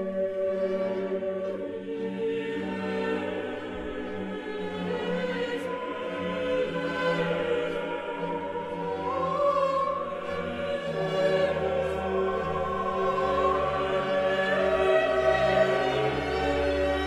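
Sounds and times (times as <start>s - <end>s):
choir singing sacred music: 0.0s - 17.0s.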